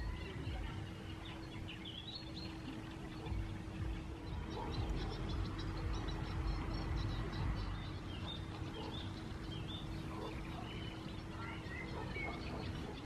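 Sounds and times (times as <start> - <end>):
birds chirping: 0.0 - 13.0
faint steady hum: 0.0 - 13.0
low outdoor rumble: 0.0 - 13.0.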